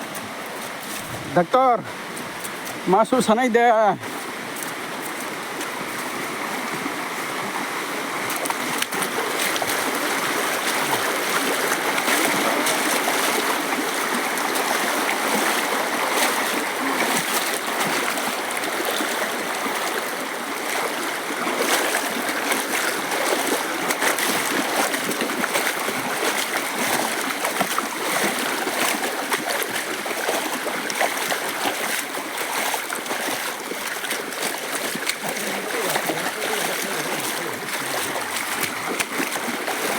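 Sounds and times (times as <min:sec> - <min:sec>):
small stream flowing: 0:00.0 - 0:39.9
water splashes: 0:00.0 - 0:39.9.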